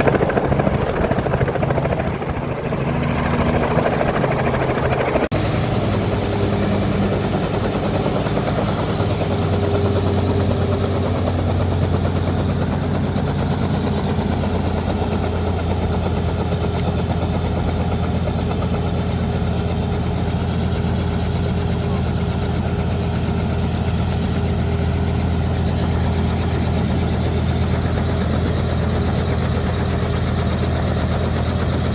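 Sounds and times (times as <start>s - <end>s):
helicopter engine and rotor: 0.0s - 31.9s.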